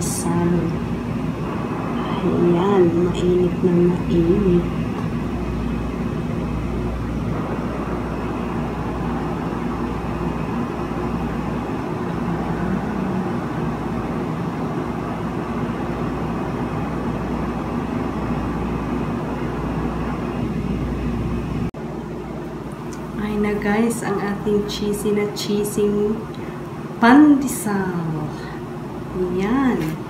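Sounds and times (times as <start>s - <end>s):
fan whooshing hum: 0.0s - 30.0s.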